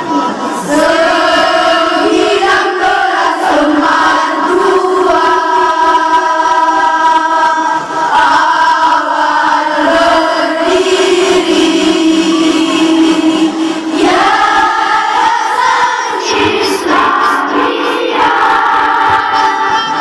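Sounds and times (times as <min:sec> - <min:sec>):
choir of girls singing: 0:00.0 - 0:20.0.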